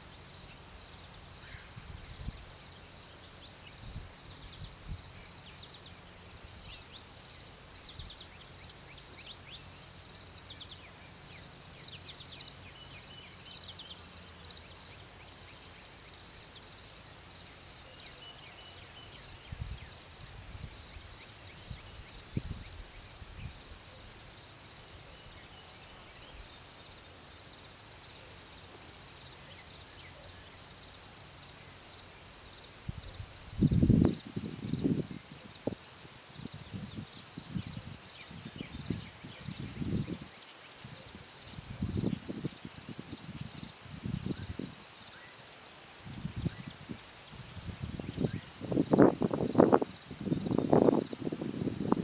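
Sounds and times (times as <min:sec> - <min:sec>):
insects chirping chorus: 0:00.0 - 0:52.0.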